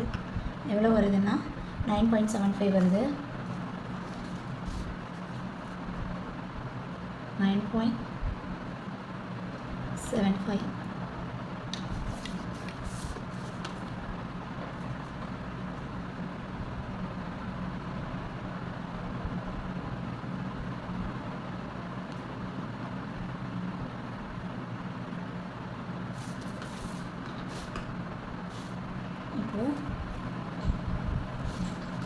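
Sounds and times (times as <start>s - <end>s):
low machine hum: 0.0s - 32.0s.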